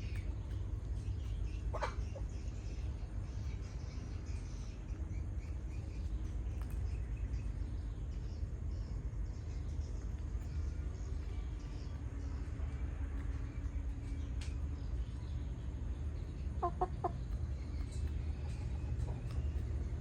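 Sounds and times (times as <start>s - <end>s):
chickens calling and chirping: 0.0s - 20.0s
low rumble: 0.0s - 20.0s.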